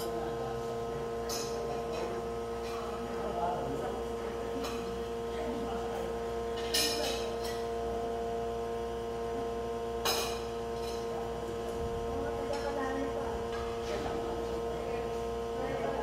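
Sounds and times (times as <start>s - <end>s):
espresso machine pump humming: 0.0s - 16.0s.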